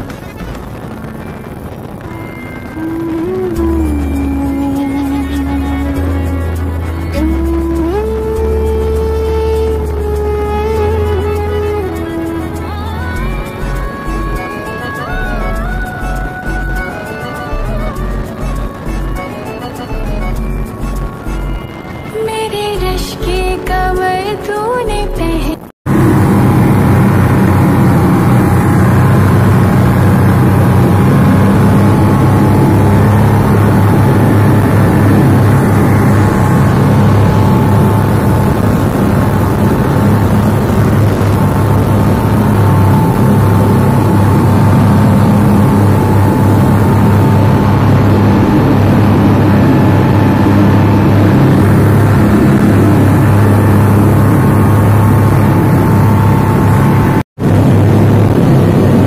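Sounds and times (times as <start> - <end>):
outboard motors droning: 0.0 - 22.1, 25.9 - 59.0
rush of boat wake: 0.0 - 22.8, 25.9 - 59.0.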